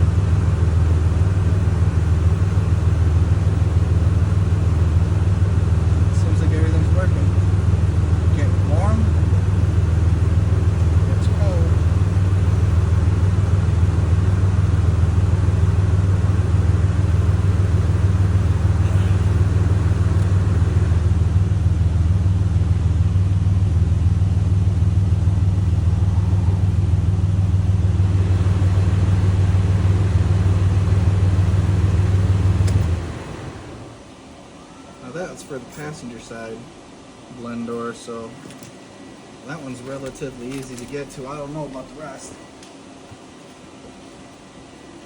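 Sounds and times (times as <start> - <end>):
car engine rumbling: 0.0 - 37.3.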